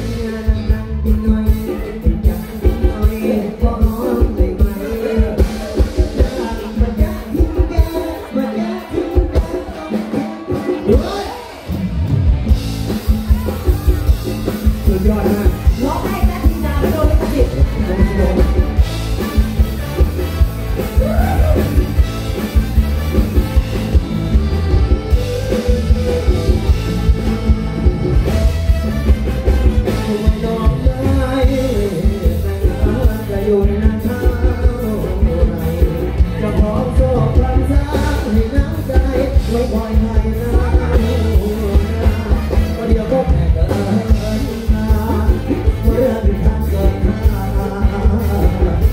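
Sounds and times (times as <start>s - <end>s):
live band playing: 0.0s - 48.9s
man singing: 0.0s - 48.9s.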